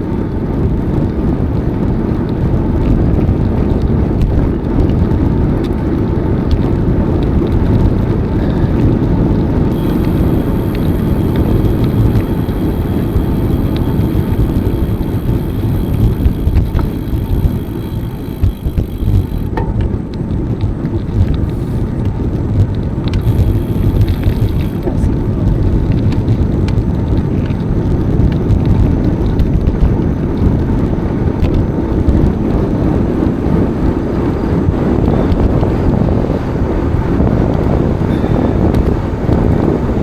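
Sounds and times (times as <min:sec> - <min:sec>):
bicycle rolling noise: 0:00.0 - 0:40.0
wind rushing over microphone: 0:00.0 - 0:40.0.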